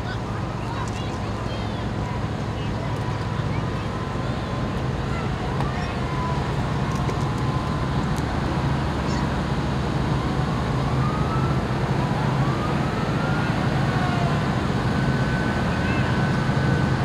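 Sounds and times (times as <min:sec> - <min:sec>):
low engine hum of vehicles: 0:00.0 - 0:17.0.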